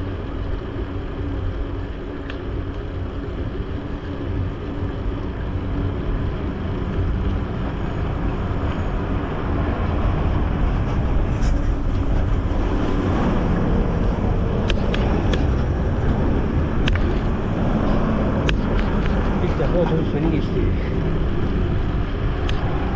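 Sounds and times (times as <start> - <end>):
road traffic: 0.0 - 22.9.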